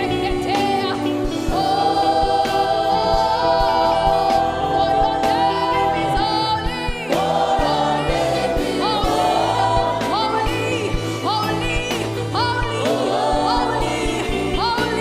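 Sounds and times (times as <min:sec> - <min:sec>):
band with steady drum beat: 0:00.0 - 0:15.0
voices singing: 0:00.0 - 0:15.0.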